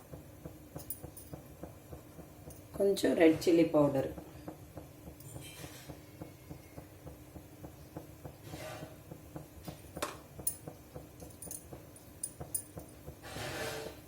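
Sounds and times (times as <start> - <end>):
food crackling on hot pan: 0.0 - 12.2.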